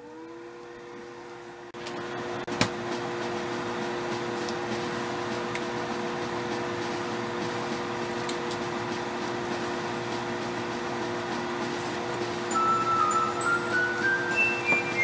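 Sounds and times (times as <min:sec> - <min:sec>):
electric oven humming: 0:00.0 - 0:15.0.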